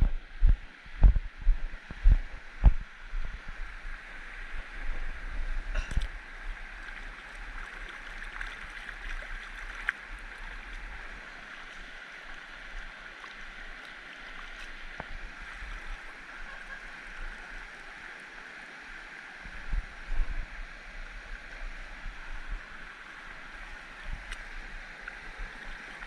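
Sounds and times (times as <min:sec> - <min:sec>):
stream flowing and gurgling: 0:00.0 - 0:26.0.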